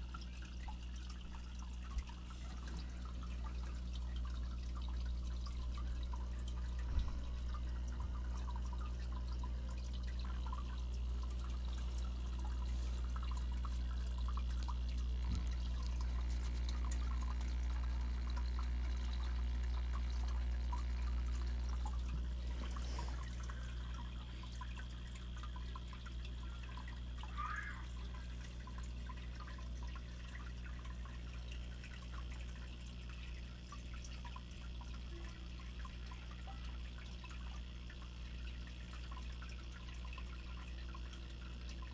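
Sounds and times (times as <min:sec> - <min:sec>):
aquarium water bubbling: 0:00.0 - 0:41.9
low electrical pump hum: 0:00.0 - 0:41.9.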